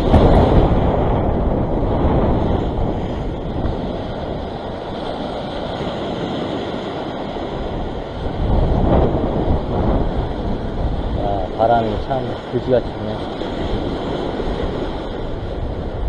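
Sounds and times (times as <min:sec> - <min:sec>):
waves breaking against rocks: 0:00.0 - 0:16.0
wind rumbling on microphone: 0:00.0 - 0:16.0.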